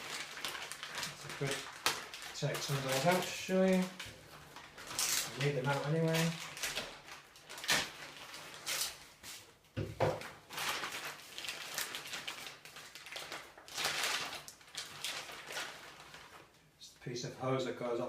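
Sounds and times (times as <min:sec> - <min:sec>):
plastic packaging rustling: 0:00.0 - 0:16.6.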